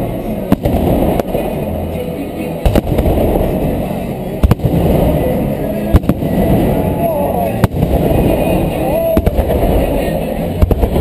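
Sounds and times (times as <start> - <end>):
fireworks bangs: 0.0 - 1.8, 2.6 - 11.0
large crowd hubbub: 0.0 - 11.0.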